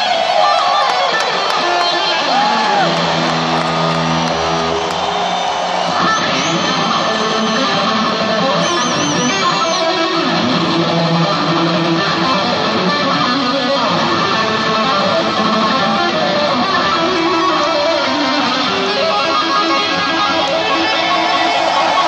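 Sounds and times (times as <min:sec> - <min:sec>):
overdriven electric guitar: 0:00.0 - 0:22.0.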